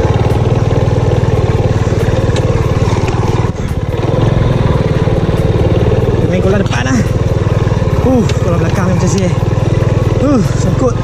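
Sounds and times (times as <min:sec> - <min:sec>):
scooter engine putter: 0:00.0 - 0:11.0.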